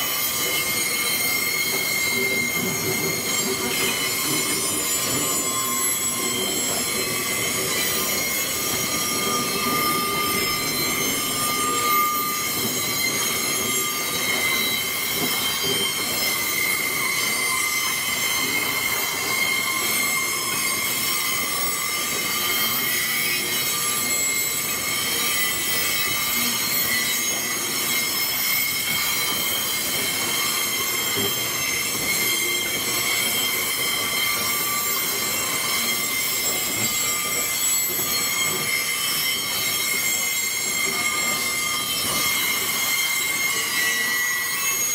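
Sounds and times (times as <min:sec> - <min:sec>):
metallic wheel squeal: 0:00.0 - 0:44.9.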